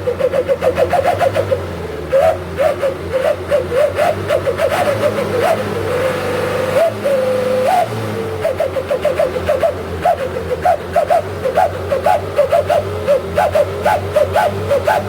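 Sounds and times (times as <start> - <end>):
howling whistle exhaust: 0.0 - 15.0
low engine hum: 0.0 - 15.0.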